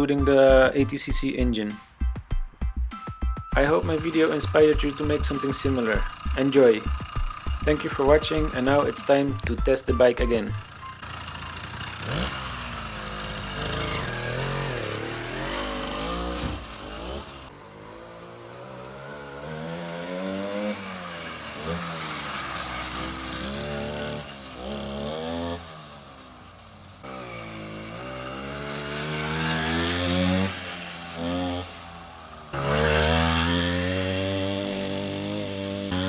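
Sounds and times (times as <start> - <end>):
two-stroke engine revving: 3.5 - 36.0.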